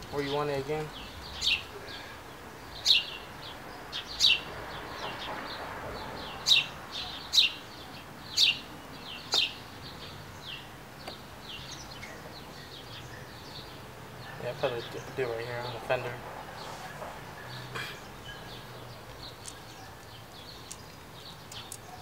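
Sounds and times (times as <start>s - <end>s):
bird chirping: 0.0s - 22.0s
faint background noise: 0.0s - 22.0s.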